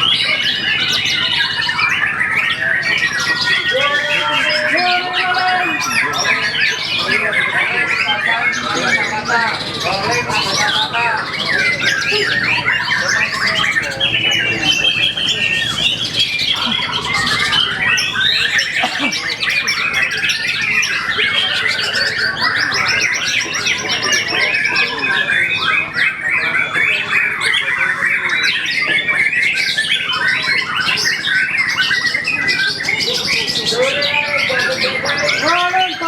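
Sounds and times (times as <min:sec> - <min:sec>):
songbirds singing: 0:00.0 - 0:36.0.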